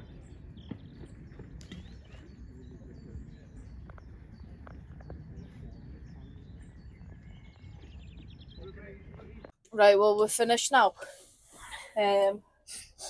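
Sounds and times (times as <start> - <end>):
songbirds chirping and singing: 0.0 - 11.6.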